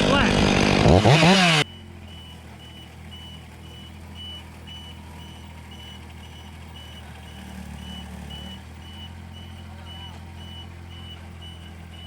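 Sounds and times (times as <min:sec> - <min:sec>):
engine idling: 0:00.0 - 0:12.0
vehicle reversing alarm beeping: 0:01.1 - 0:12.0.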